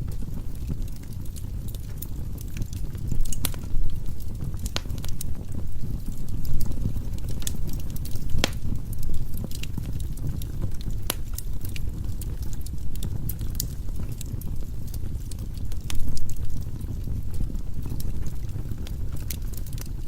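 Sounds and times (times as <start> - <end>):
firewood crackling and popping: 0.0 - 20.0
low rumble of flames: 0.0 - 20.0.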